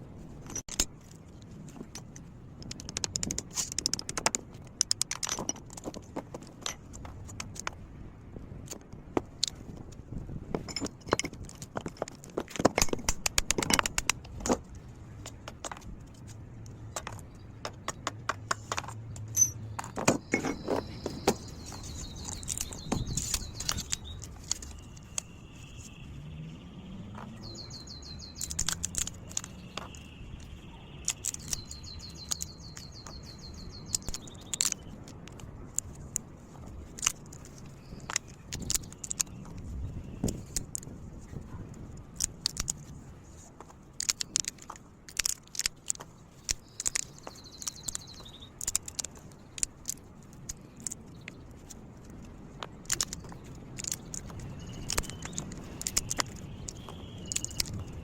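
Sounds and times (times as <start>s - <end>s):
metal parts clicking and clinking: 0.3s - 7.8s, 10.5s - 26.0s, 27.2s - 43.0s, 43.6s - 58.0s.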